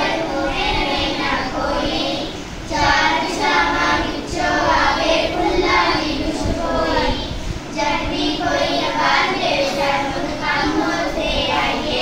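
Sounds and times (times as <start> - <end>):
children singing in unison: 0.0 - 12.0.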